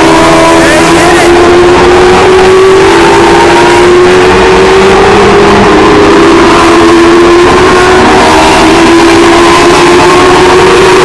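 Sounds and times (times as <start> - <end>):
race cars racing past: 0.0 - 11.0.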